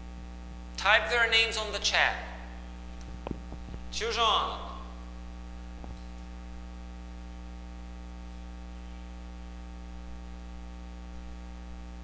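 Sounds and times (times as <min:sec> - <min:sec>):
electrical mains hum: 0:00.0 - 0:12.0
static hiss: 0:01.7 - 0:12.0.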